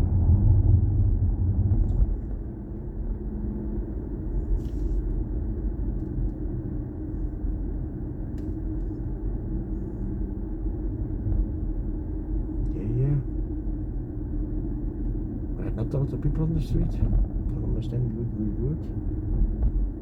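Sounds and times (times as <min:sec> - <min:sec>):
road and tyre rumble in car: 0:00.0 - 0:20.0.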